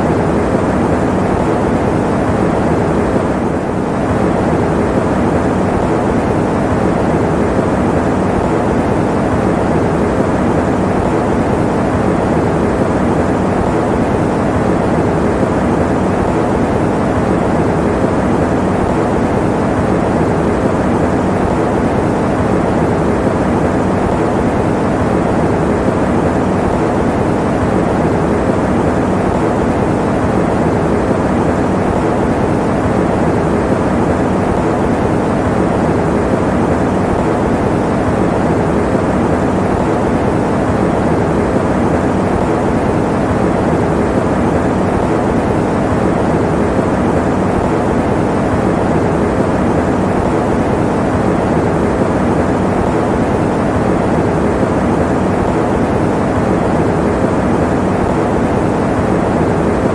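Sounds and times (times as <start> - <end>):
fan running: 0.0 - 59.9.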